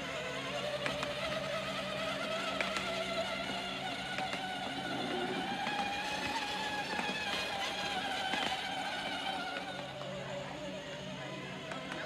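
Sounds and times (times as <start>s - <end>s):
toy car motor whining: 0.0s - 12.0s.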